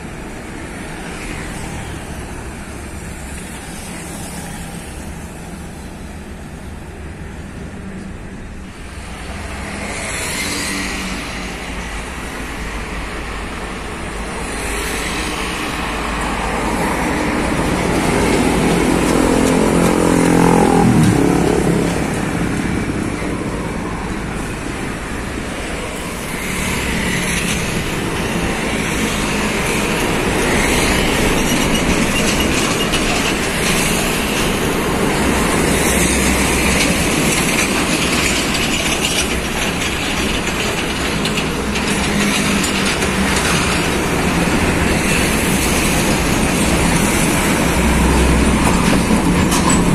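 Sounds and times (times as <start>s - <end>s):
truck diesel engines running: 0.0s - 49.9s.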